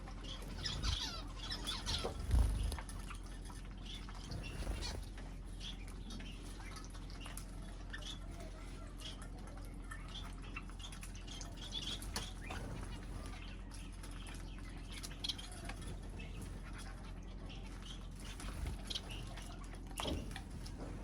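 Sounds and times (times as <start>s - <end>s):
small birds chirping: 0.0s - 21.0s
small clicks and rustles: 0.0s - 21.0s
steady low hum: 0.0s - 21.0s.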